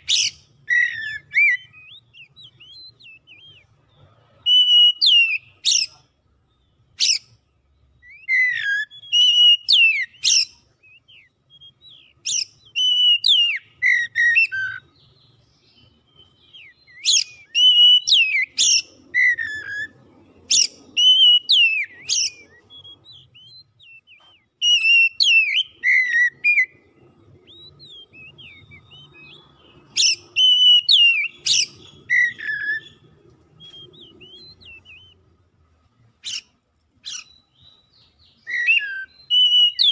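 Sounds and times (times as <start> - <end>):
bird singing whistled phrases: 0.0 - 3.8, 4.4 - 6.0, 8.0 - 35.3, 36.2 - 39.9.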